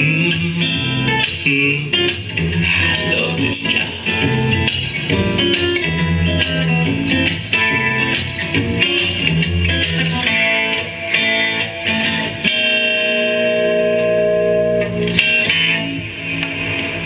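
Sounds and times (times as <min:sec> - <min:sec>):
guitar song from loudspeaker: 0:00.0 - 0:17.0.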